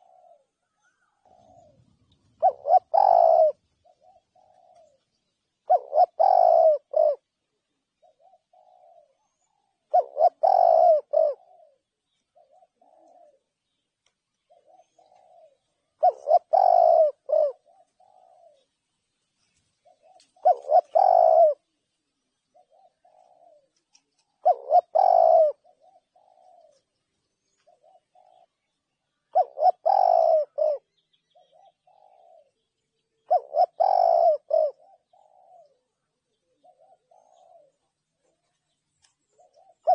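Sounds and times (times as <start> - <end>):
dove cooing: 0.0 - 13.8, 14.4 - 18.7, 19.8 - 21.8, 22.4 - 39.9.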